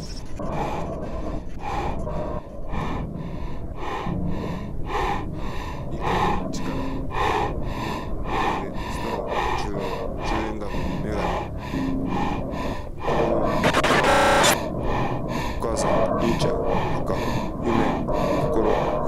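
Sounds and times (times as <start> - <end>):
man panting: 0.0 - 19.0.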